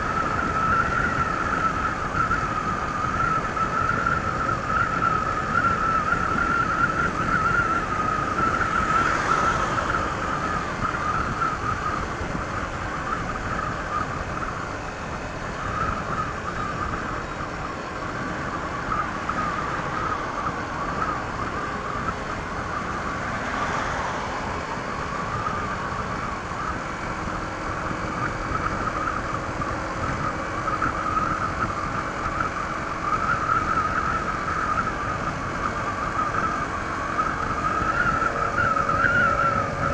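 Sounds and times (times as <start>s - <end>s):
rushing wind and road noise: 0.0s - 39.9s
scooter engine cruising: 0.0s - 39.9s.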